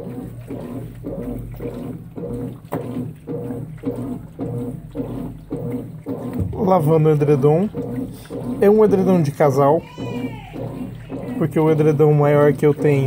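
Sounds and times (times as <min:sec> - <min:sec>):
washing machine motor: 0:00.0 - 0:13.0
washing machine water swishing: 0:00.0 - 0:13.0.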